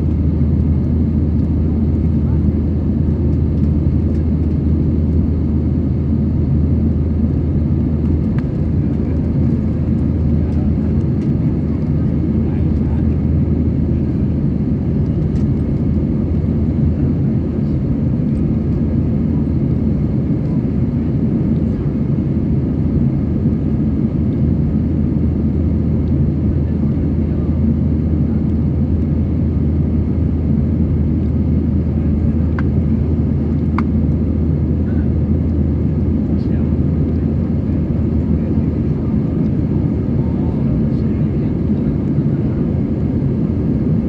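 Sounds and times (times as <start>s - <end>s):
jet engine and airflow drone: 0.0s - 44.0s.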